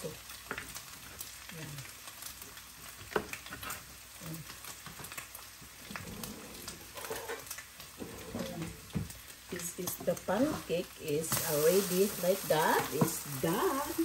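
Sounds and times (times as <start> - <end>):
food sizzling in frying pans: 0.0 - 14.0.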